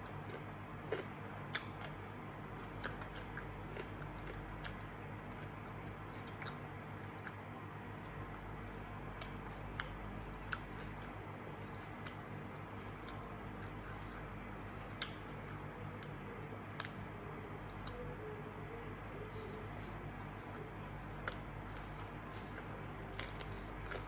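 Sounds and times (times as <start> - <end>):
person chewing food: 0.0 - 24.0
steady low hum: 0.0 - 24.0.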